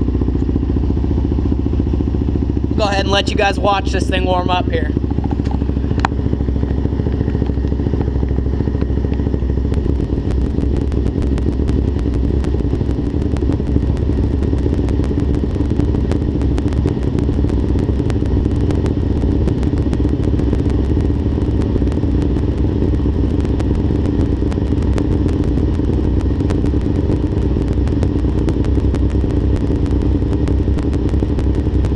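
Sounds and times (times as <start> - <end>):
quad bike engine idling: 0.0 - 28.5.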